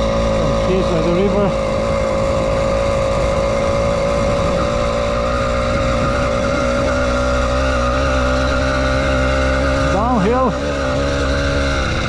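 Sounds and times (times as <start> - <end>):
two-stroke engine running: 0.0 - 12.0.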